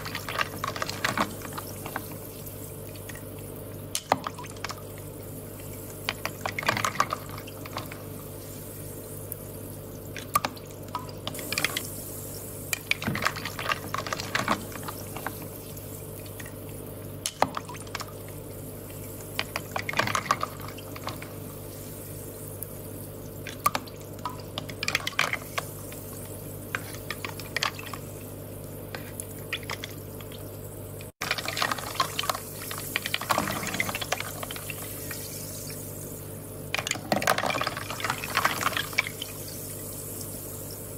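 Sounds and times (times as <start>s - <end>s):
steady low hum: 0.0s - 40.9s
water trickling and dripping: 0.0s - 40.9s.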